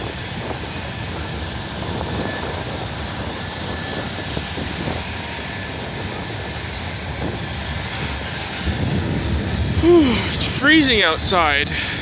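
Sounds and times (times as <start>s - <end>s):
steel wheels rumbling on track: 0.0s - 12.0s.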